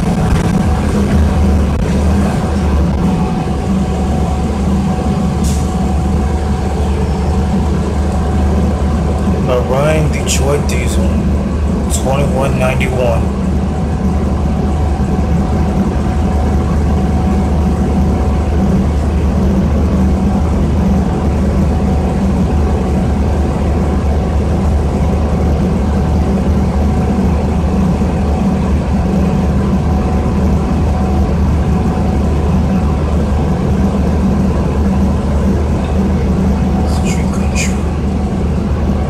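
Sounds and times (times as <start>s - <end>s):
bus diesel engine drone: 0.0s - 39.0s
faint steady whine: 0.0s - 39.0s.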